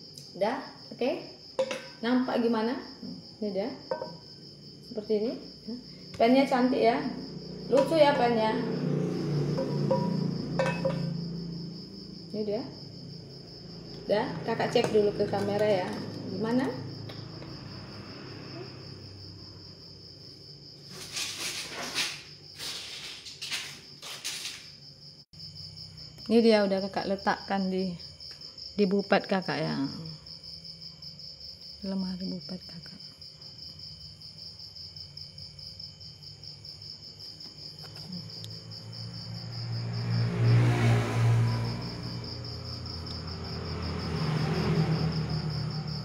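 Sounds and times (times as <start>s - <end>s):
high-pitched insect trill: 0.0s - 46.0s.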